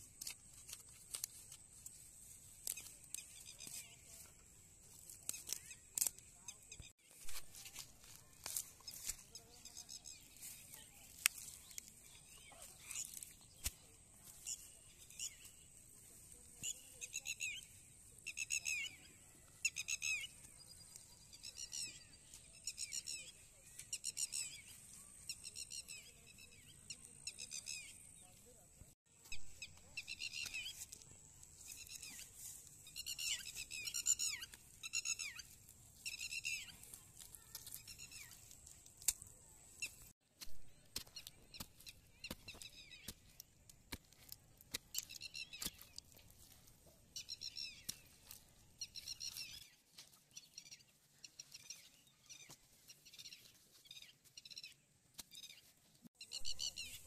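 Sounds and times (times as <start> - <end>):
squelches of digging wet mud: 0.0 - 28.2, 29.2 - 57.0
birds chirping: 1.4 - 57.0.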